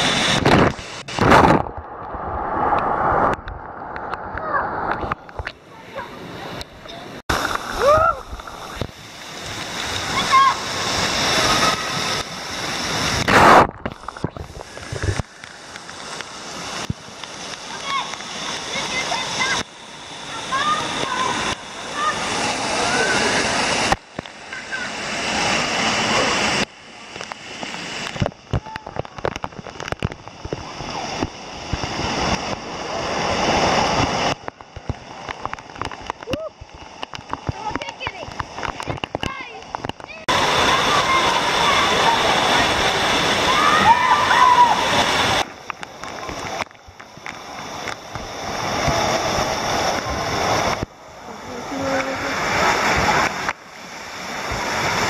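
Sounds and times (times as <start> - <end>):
fountain jets spraying: 5.2 - 55.0.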